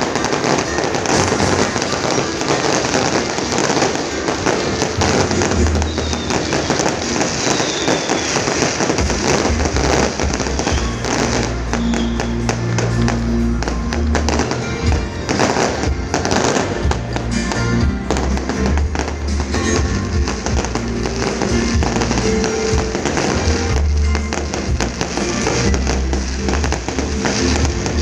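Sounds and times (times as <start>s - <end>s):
music with heavy bass: 0.0s - 7.6s, 8.5s - 28.0s
fireworks bursting and crackling: 0.0s - 28.0s.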